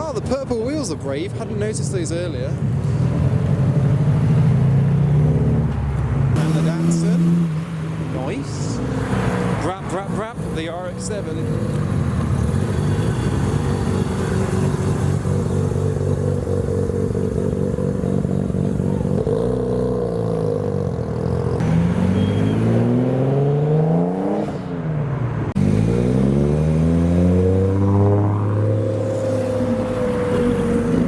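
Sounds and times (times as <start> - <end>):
car engine accelerating: 2.8 - 24.7, 25.4 - 31.0.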